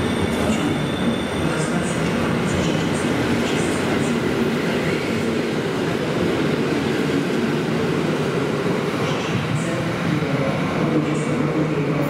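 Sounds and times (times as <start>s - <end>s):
train coaches rumbling over rails: 0.0s - 12.0s.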